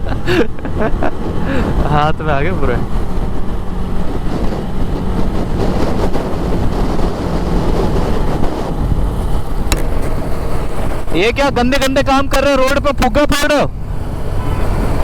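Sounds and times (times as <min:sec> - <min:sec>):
motorcycle engine hum: 0:00.0 - 0:15.0
wind rush over microphone: 0:00.0 - 0:15.0.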